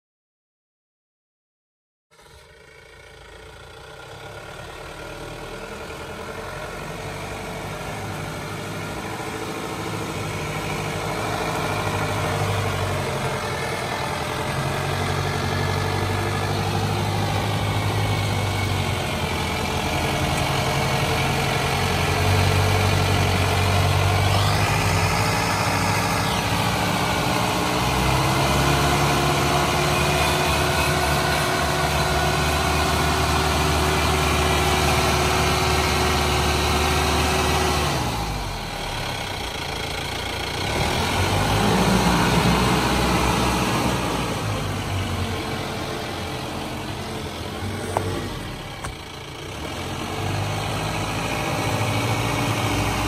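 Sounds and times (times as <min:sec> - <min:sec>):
diesel engine running at low revs: 0:02.1 - 0:53.0.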